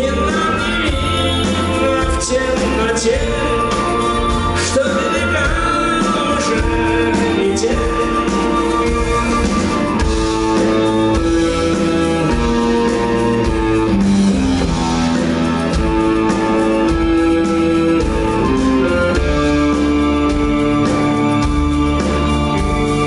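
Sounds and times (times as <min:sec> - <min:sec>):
bass and drums: 0:00.0 - 0:23.0
electric guitar melody: 0:00.0 - 0:23.0.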